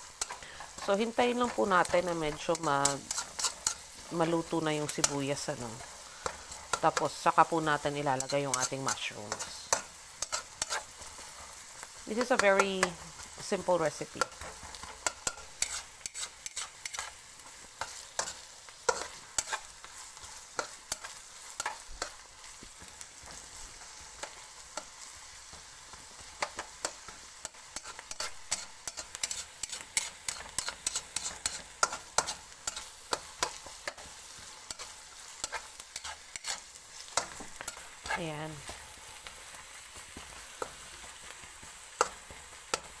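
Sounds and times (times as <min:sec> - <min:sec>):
spatula scraping a pan: 0:00.0 - 0:13.4, 0:14.1 - 0:43.0
onions sizzling in hot oil: 0:00.0 - 0:43.0.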